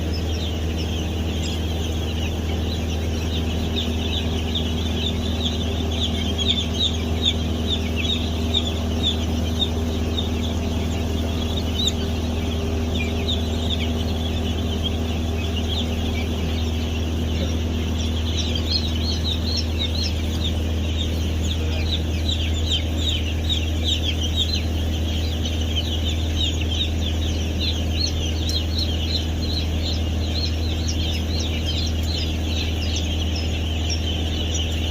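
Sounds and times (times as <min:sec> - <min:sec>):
chicks peeping: 0:00.0 - 0:34.9
low machine hum: 0:00.0 - 0:34.9.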